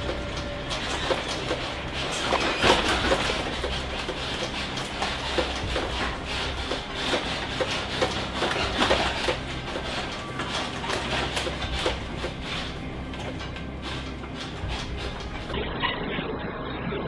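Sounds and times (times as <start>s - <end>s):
bus rattling and clattering: 0.0s - 15.6s.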